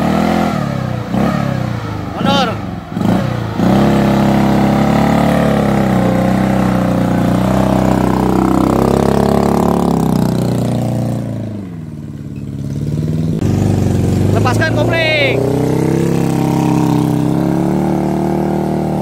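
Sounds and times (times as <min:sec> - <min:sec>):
engine at high revs: 0:00.0 - 0:19.0.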